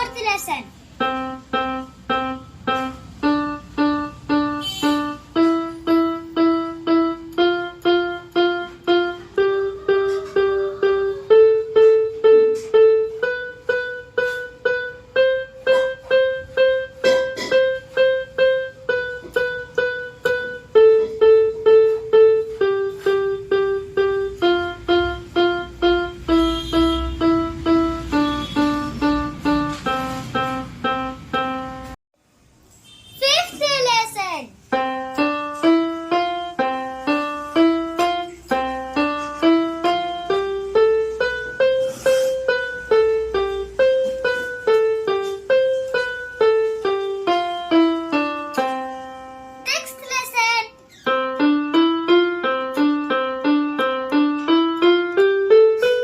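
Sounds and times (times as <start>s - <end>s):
electronic keyboard playing scale: 0.0s - 32.0s, 34.6s - 56.0s.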